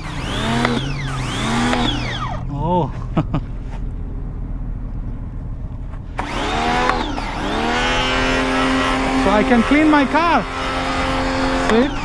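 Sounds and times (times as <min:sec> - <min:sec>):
pressure washer pump motor whine: 0:00.0 - 0:02.8, 0:03.9 - 0:12.0
low steady hum: 0:00.0 - 0:12.0.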